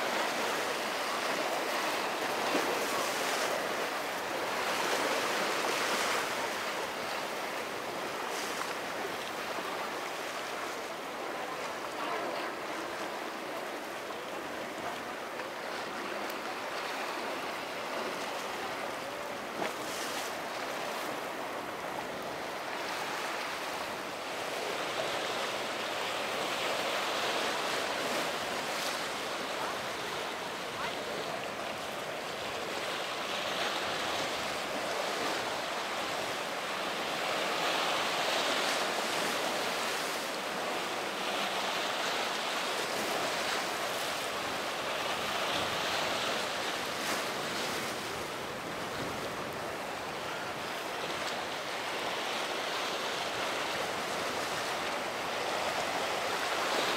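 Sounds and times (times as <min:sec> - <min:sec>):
ocean waves and surf rushing: 0:00.0 - 0:56.9.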